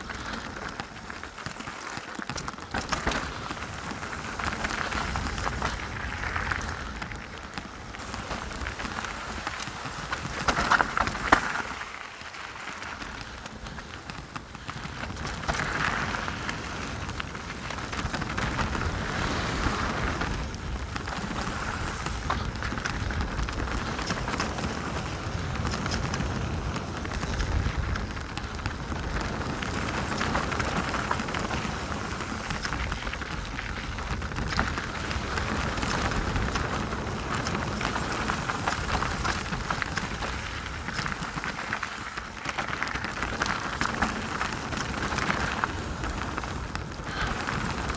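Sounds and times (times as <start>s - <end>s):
bike knocks and rattles: 0.0s - 47.9s
bike tyres clattering over stones: 0.0s - 47.9s.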